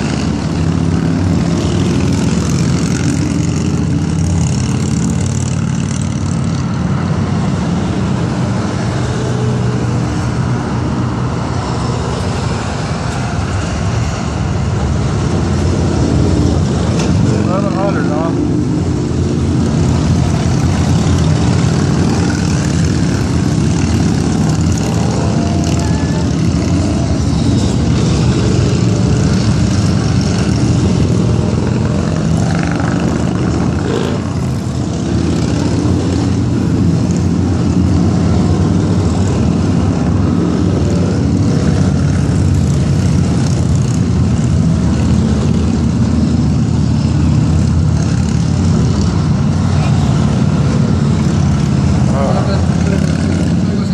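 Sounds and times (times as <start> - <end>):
motorcycles and cars passing: 0.0 - 53.9.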